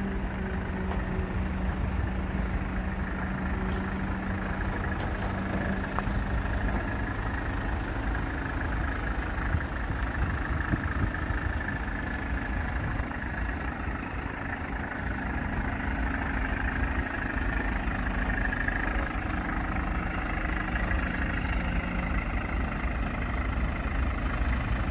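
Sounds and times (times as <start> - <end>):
truck engine idling: 0.0 - 24.9.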